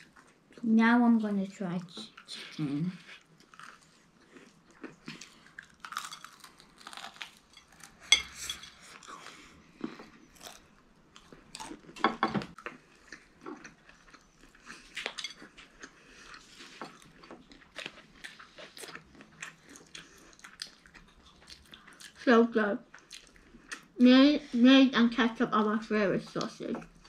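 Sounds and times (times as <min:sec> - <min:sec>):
chewing crispy fried chicken: 0:01.9 - 0:24.0.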